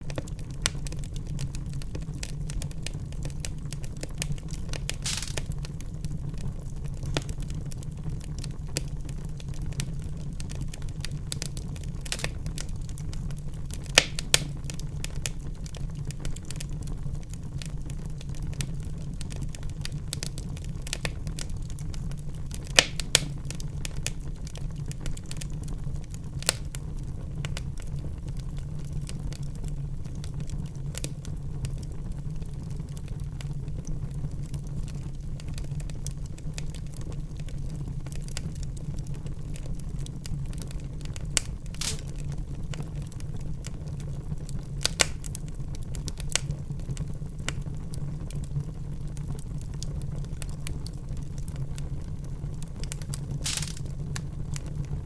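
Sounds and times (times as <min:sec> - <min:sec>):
fireplace fire crackling: 0:00.0 - 0:55.0
low rumble of flames: 0:00.0 - 0:55.0.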